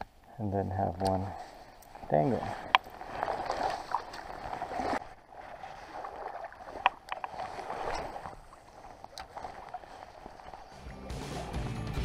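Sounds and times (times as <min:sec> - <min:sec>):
water splashing and sloshing: 0:01.1 - 0:12.0.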